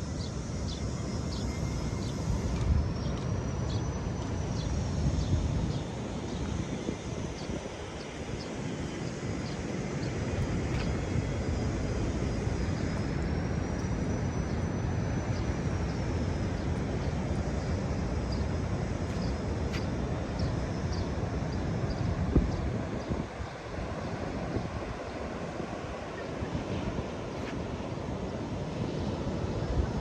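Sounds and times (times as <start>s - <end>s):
faint thin high whine: 0.0s - 30.0s
wind: 0.0s - 30.0s.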